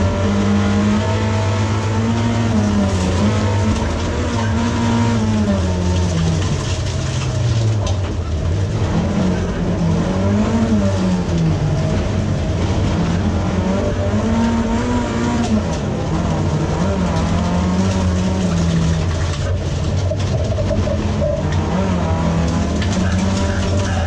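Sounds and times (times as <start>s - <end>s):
race car engine revving: 0.0s - 24.0s
tyres on dirt track: 0.0s - 24.0s.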